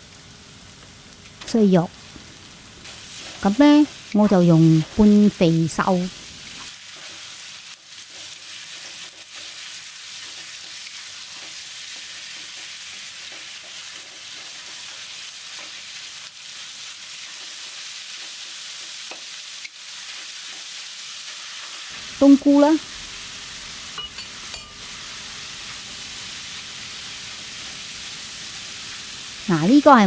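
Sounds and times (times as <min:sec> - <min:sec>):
minced meat sizzling in oil: 0:00.0 - 0:30.0.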